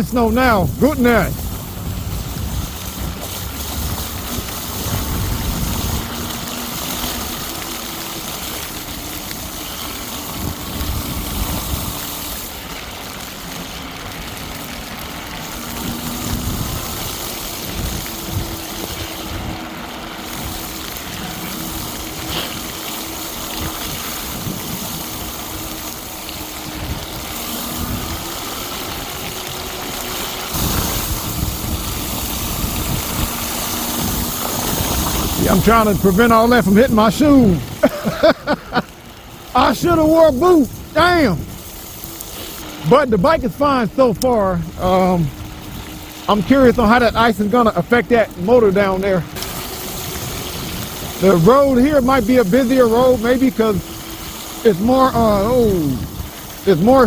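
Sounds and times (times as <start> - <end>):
wind buffeting microphone: 0.0 - 43.6, 44.2 - 57.0
bike tyres rolling through slush: 0.0 - 57.0
electric motor whine: 0.0 - 57.0.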